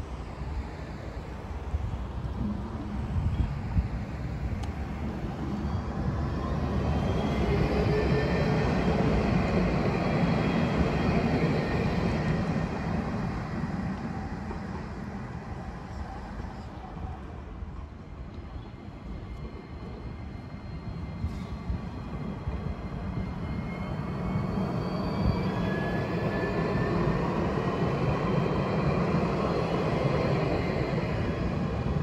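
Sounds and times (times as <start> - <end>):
tram passing on track: 0.0 - 32.0.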